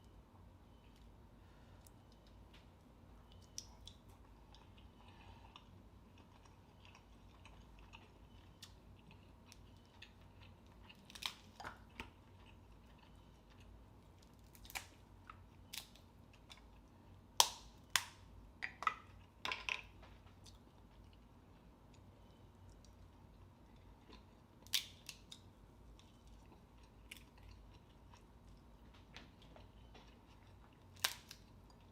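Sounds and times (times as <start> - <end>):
quiet chewing: 0.7 - 14.5, 20.0 - 31.9.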